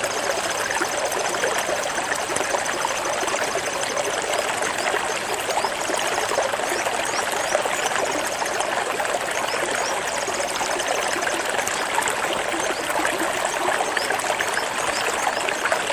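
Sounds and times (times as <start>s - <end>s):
stream water flowing: 0.0s - 15.9s.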